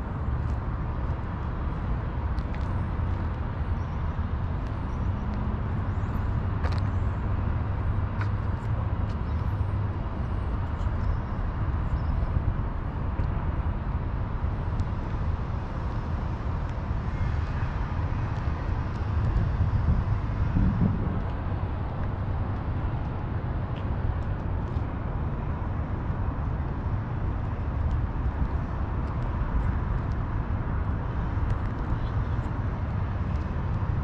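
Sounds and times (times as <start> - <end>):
distant road traffic rumble: 0.0 - 34.0.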